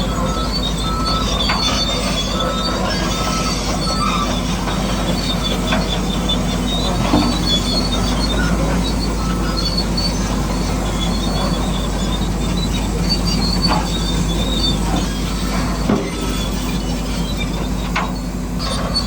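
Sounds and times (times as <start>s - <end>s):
bulldozer motor hum: 0.0s - 19.0s
metallic squealing of tracks: 0.0s - 19.0s.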